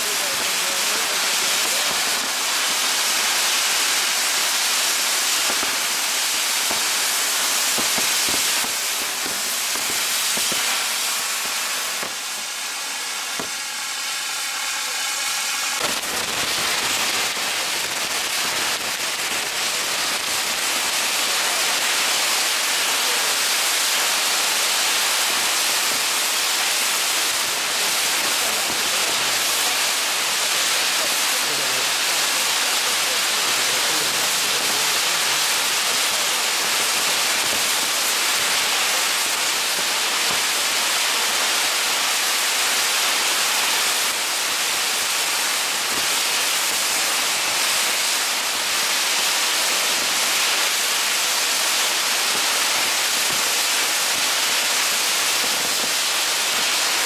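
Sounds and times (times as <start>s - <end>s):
fireworks crackling: 0.0s - 57.0s
fireworks hissing: 0.0s - 57.0s.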